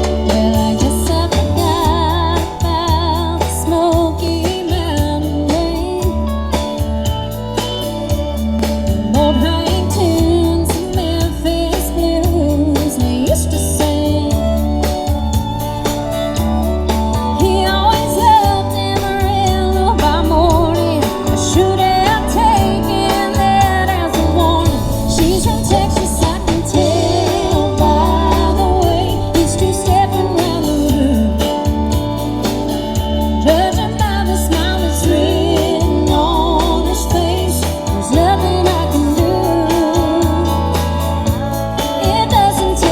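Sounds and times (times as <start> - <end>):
person singing: 0.0 - 7.1, 9.1 - 32.6, 33.3 - 42.9
steady bass line: 0.0 - 42.9.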